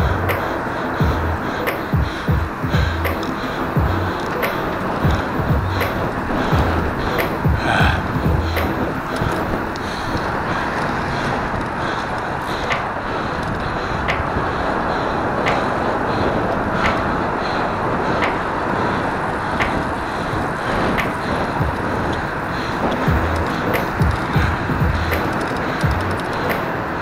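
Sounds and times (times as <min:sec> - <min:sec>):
bicycle road noise: 0:00.0 - 0:27.0
faint sharp ticking: 0:00.0 - 0:27.0
wind noise: 0:00.0 - 0:27.0.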